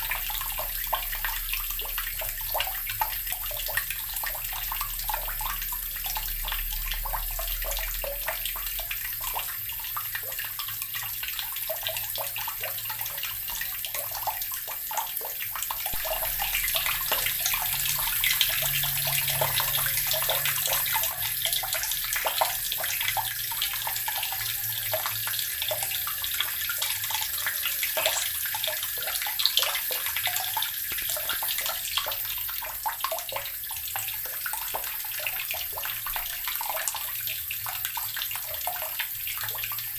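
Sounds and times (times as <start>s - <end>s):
tap water splashing into basin: 0.0s - 39.9s.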